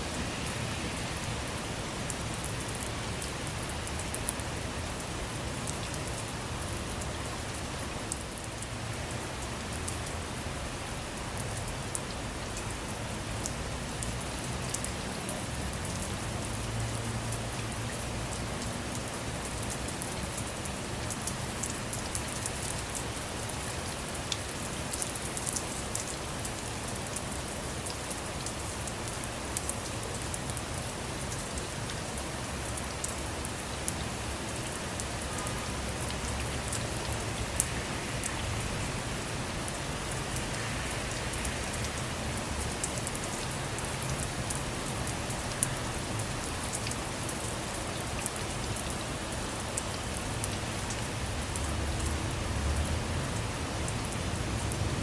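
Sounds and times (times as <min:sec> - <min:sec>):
rain falling on a car: 0:00.0 - 0:55.0.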